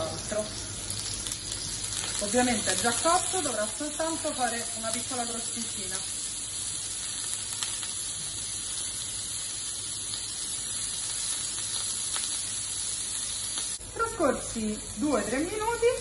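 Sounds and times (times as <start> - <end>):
octopus sizzling in hot oil: 0.0 - 16.0.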